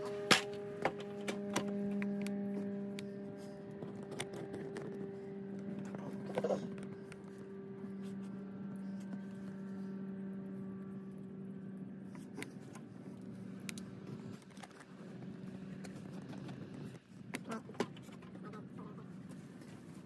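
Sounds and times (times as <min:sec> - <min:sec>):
tape crackling and clicking: 0:00.0 - 0:18.5
steady low motor hum: 0:00.0 - 0:20.0.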